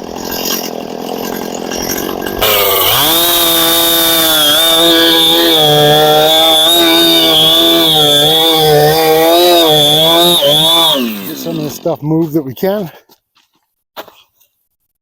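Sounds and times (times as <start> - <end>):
chainsaw cutting log: 0.0 - 12.8.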